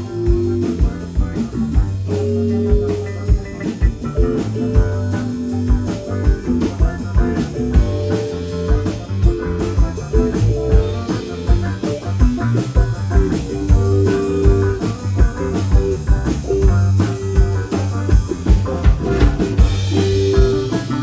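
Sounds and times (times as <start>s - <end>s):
bass guitar: 0.0s - 21.0s
drum kit steady beat: 0.0s - 21.0s
electric guitar: 0.0s - 21.0s.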